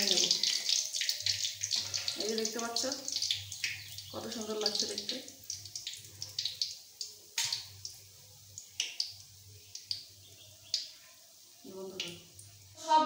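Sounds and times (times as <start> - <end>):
hot oil crackling in a wok: 0.0 - 12.8.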